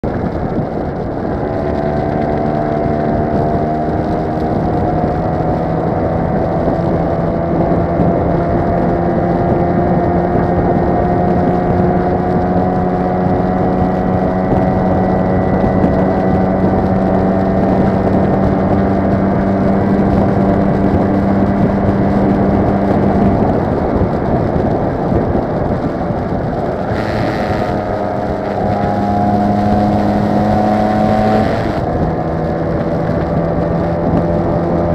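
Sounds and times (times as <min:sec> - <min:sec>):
motor scooter engine running: 0:00.0 - 0:34.9
road rumble: 0:00.0 - 0:34.9
wind: 0:00.0 - 0:34.9.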